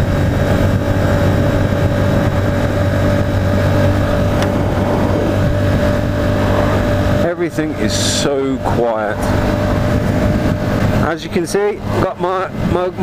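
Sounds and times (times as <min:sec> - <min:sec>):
motorcycle engine running: 0:00.0 - 0:13.0
rushing wind: 0:00.0 - 0:13.0.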